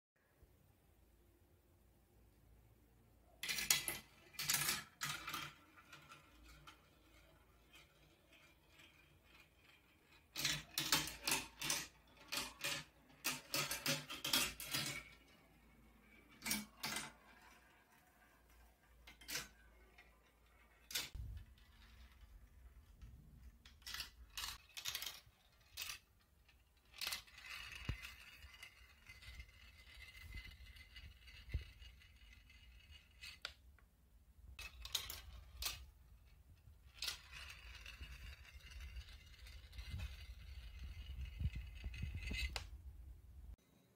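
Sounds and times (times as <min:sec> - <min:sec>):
marbles clattering down marble run: 0:03.4 - 0:33.5, 0:34.6 - 0:36.0, 0:36.6 - 0:42.7.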